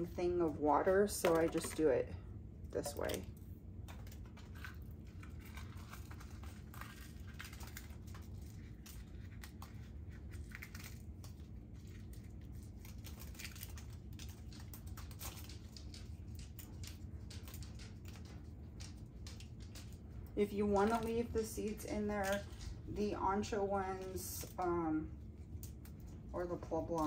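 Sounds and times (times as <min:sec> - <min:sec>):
low steady hum: 0:00.0 - 0:27.0
dried chili peppers crackling: 0:02.8 - 0:27.0.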